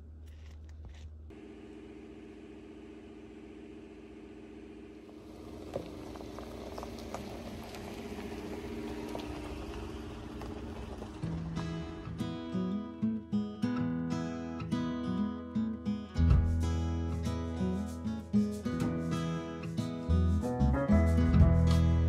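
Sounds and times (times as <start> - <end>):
vehicle engine running: 0.0 - 13.0, 16.2 - 22.0.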